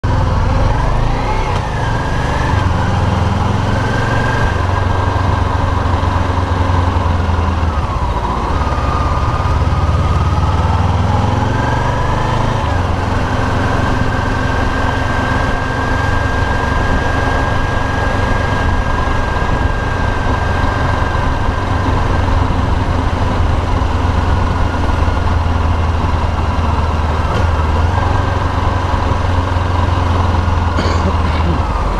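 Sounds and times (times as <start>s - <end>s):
engine droning and whining: 0.0s - 31.9s.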